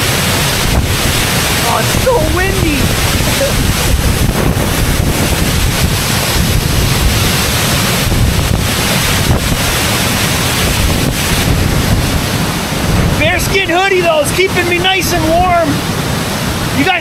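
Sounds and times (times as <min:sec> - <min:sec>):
waterfall rushing: 0:00.0 - 0:17.0
wind buffeting the microphone: 0:00.0 - 0:17.0.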